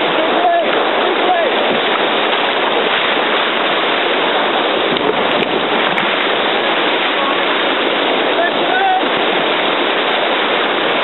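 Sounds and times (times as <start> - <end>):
paddle splashing in water: 0.0 - 11.0
whitewater rushing: 0.0 - 11.0.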